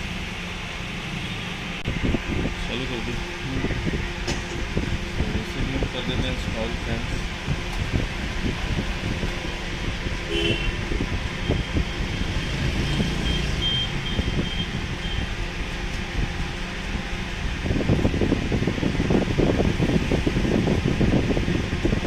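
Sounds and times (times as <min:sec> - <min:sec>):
fan-like background noise: 0:00.0 - 0:22.0.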